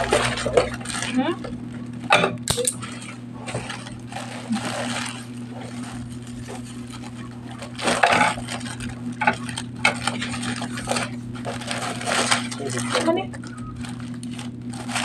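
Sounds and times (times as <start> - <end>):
parcel being unpacked: 0.0 - 15.0
steady low hum: 0.0 - 15.0.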